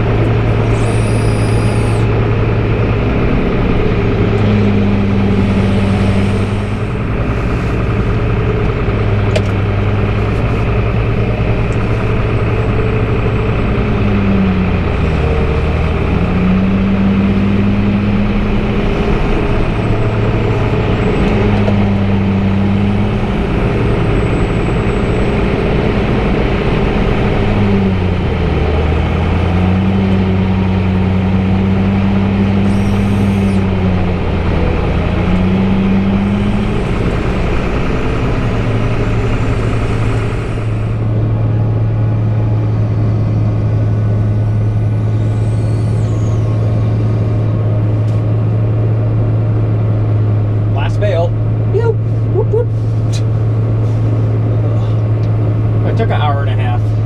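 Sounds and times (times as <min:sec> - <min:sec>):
diesel engines droning: 0:00.0 - 0:57.0.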